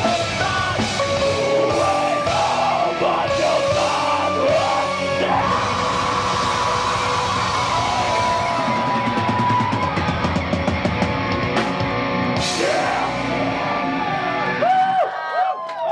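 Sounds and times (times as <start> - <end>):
heavy metal band playing: 0.0 - 15.0.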